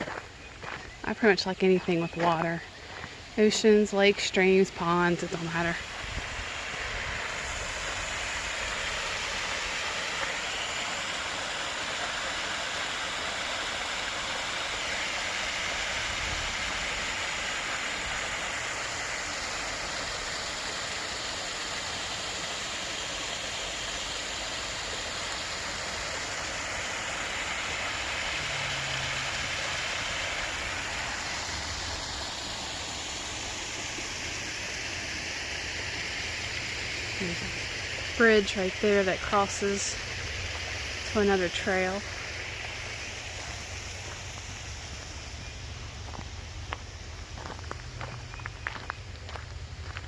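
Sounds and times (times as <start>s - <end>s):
stream water rushing: 1.9s - 50.0s.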